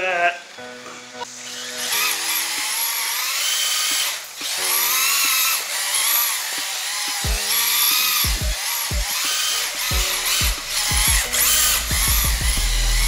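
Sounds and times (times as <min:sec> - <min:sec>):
electric motor whining: 0:01.4 - 0:13.0.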